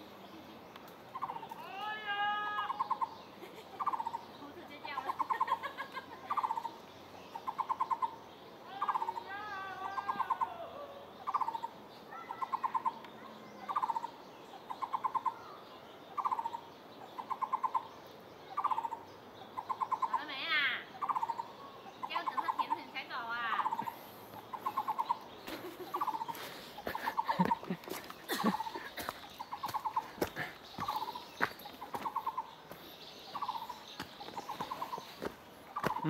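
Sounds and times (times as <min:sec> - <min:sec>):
other birds wavering calls: 0:01.1 - 0:36.0.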